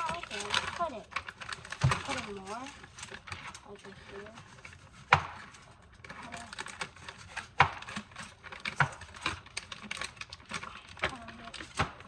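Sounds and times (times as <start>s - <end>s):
kitchen items clicking and knocking: 0.0s - 12.0s.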